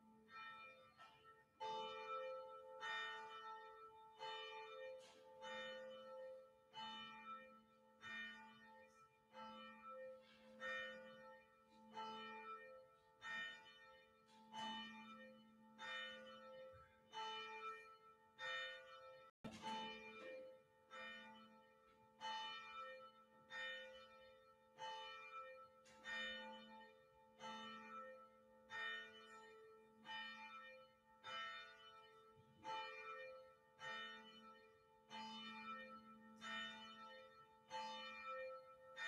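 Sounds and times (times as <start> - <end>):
church bell ringing faintly: 0.0 - 39.0.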